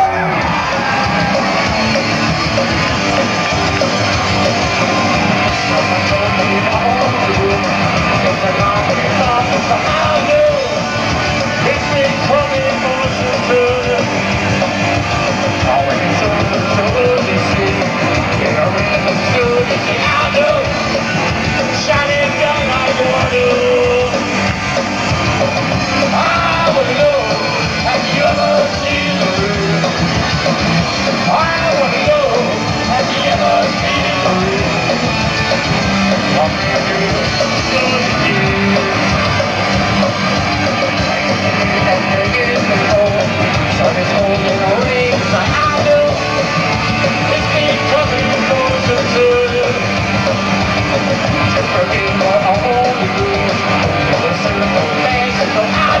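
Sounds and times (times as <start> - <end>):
punk rock band playing live: 0.0 - 56.0
person singing: 4.6 - 14.5, 15.5 - 21.0, 21.6 - 24.4, 26.0 - 30.1, 31.2 - 40.0, 41.2 - 50.0, 50.9 - 56.0.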